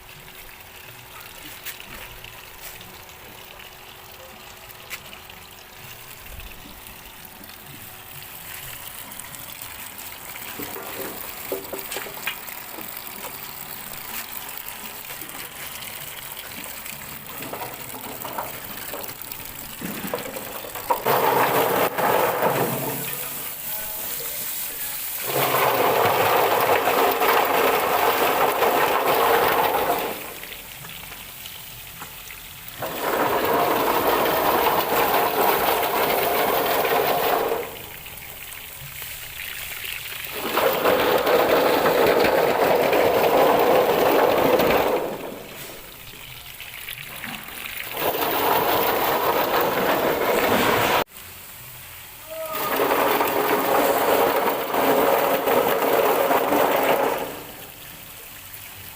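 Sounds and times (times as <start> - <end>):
washing machine water gushing: 0.0 - 58.9.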